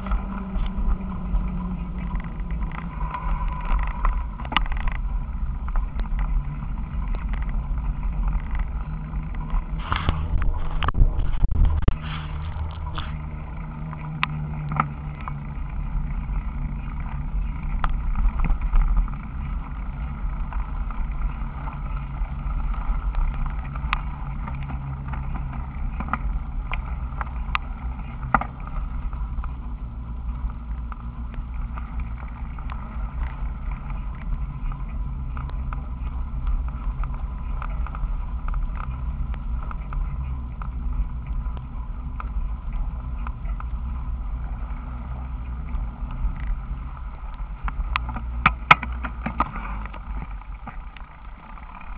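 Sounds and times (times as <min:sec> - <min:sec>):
bicycle clicks and rattles: 0:00.0 - 0:51.9
bicycle vibration rumble: 0:00.0 - 0:51.9.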